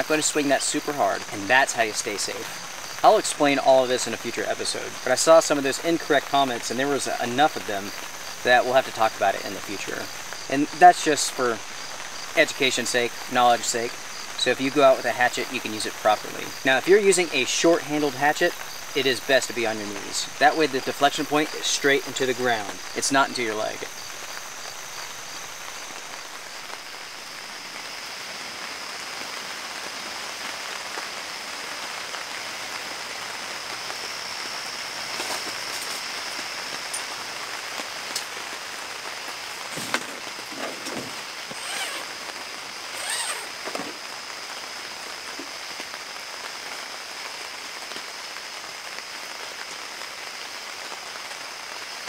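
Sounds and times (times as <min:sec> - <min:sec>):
heavy rain on tent fabric: 0:00.0 - 0:52.0.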